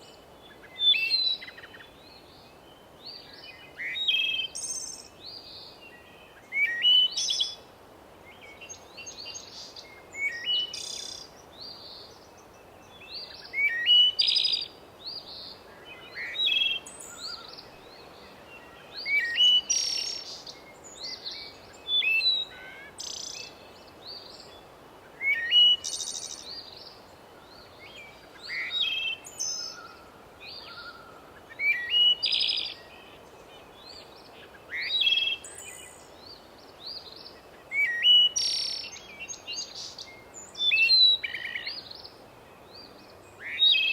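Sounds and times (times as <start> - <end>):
faint hiss: 0.0 - 43.9
songbirds singing: 0.0 - 43.9.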